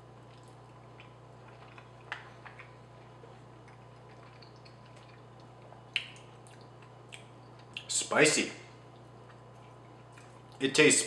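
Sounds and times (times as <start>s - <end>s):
person chewing: 0.0s - 7.9s, 8.8s - 10.6s
steady low hum: 0.0s - 11.0s.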